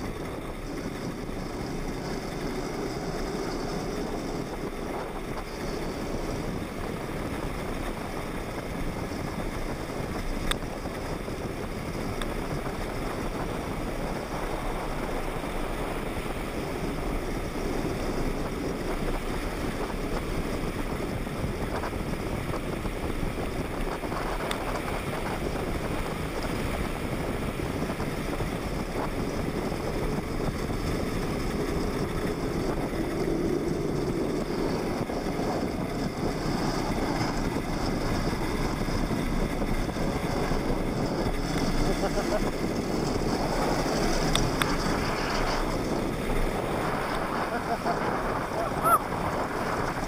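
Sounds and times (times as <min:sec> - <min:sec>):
plastic wheels rolling on asphalt: 0:00.0 - 0:50.0
wind rushing over microphone: 0:00.0 - 0:50.0.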